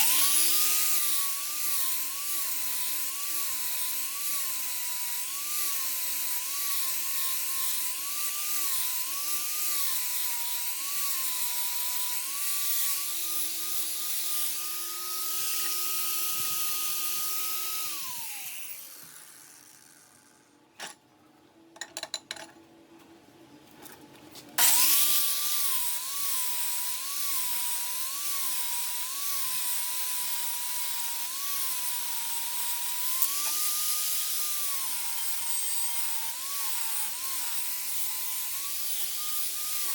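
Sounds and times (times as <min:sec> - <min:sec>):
angle grinder grinding steel: 0:00.0 - 0:20.4, 0:24.6 - 0:39.9.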